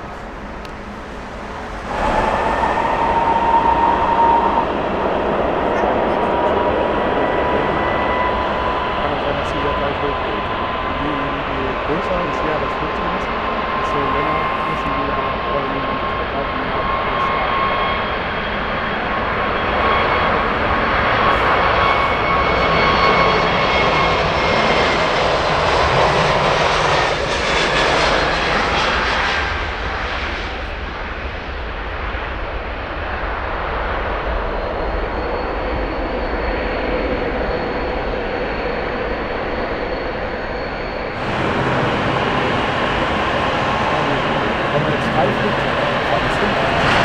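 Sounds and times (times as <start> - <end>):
jet airliner engines passing: 0.0 - 47.0.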